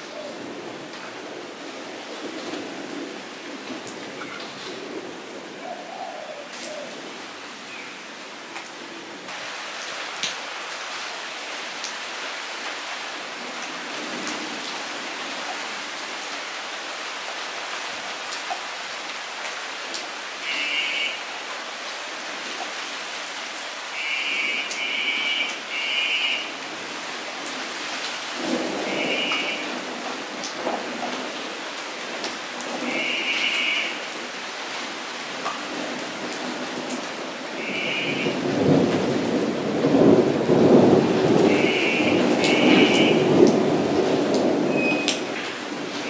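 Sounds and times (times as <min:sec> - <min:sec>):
rain falling into a puddle: 0:00.0 - 0:05.6, 0:08.4 - 0:46.0.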